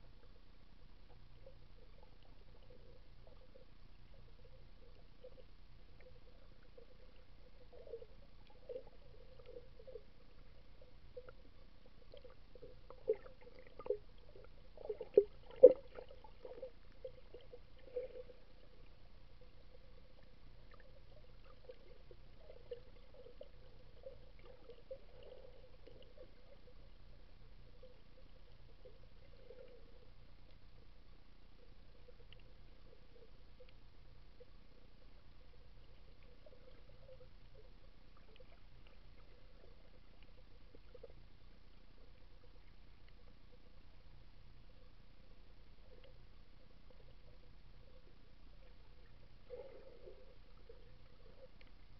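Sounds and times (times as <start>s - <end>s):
faint underwater gurgling: 0.0s - 51.9s.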